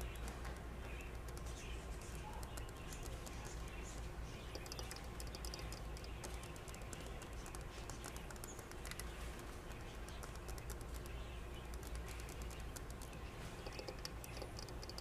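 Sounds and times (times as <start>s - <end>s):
bird clicking and scratching: 0.0s - 15.0s
low steady hum: 0.0s - 15.0s.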